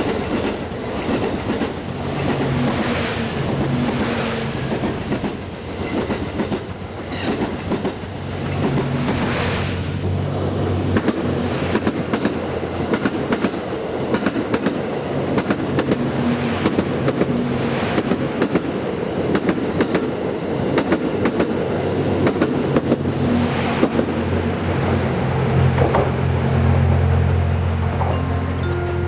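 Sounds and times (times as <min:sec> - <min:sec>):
train wheels clicking over rail joints: 0:00.0 - 0:09.4, 0:10.8 - 0:27.1
diesel train engine hum: 0:00.0 - 0:29.0.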